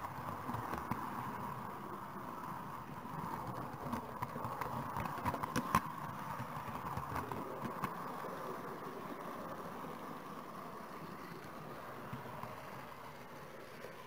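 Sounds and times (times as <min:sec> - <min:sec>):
model train running hum: 0:00.0 - 0:14.0
wheels clicking over rail joints: 0:00.0 - 0:14.0.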